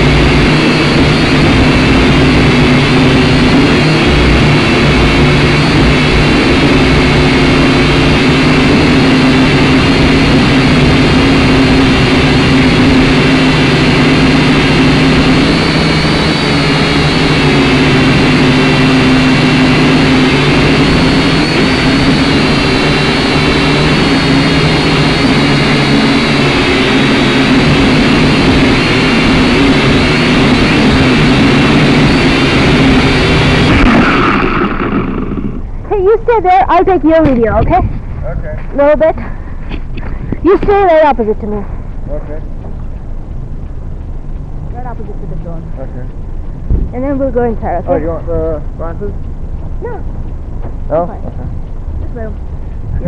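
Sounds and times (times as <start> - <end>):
drone rotors whirring: 0.0 - 53.0.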